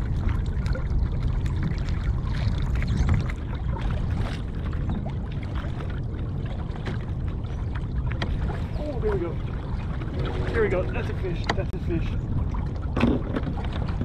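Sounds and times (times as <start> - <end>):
waves lapping against a hull: 0.0 - 14.0
wind rumble on microphone: 0.0 - 14.0.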